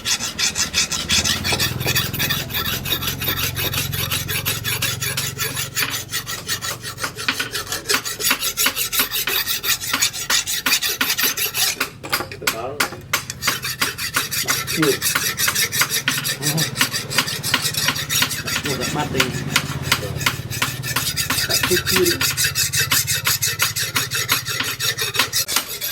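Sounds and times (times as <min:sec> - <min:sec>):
file rasping on metal blade: 0:00.0 - 0:25.9.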